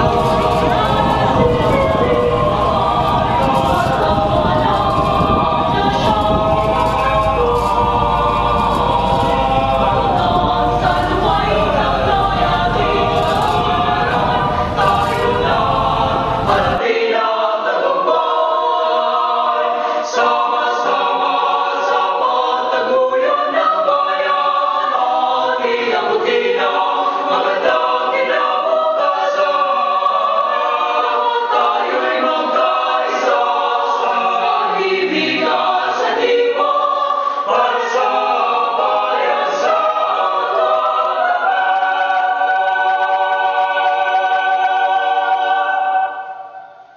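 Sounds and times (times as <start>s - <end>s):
choir singing: 0.0s - 46.9s.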